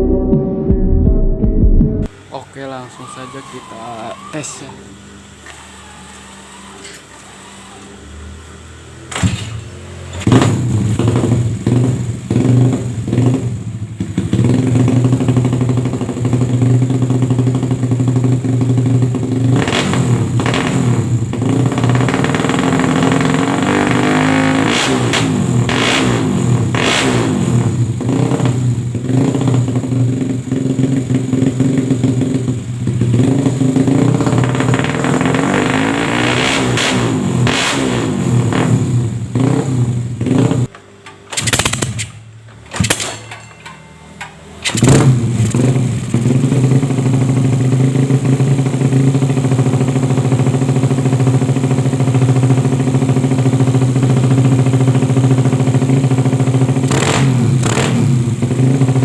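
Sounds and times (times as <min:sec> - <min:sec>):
motorcycle engine revving: 0:01.5 - 0:42.1, 0:44.6 - 0:59.0.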